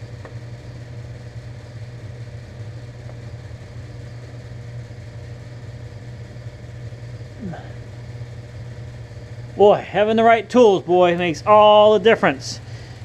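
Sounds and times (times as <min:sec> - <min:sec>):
space heater humming: 0:00.0 - 0:13.0.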